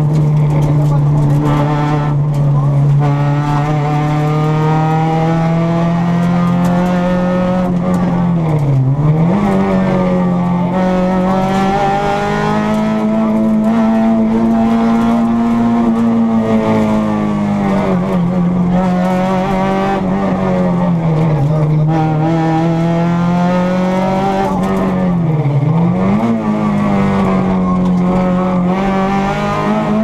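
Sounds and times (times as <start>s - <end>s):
car engine running hard: 0.0s - 30.0s.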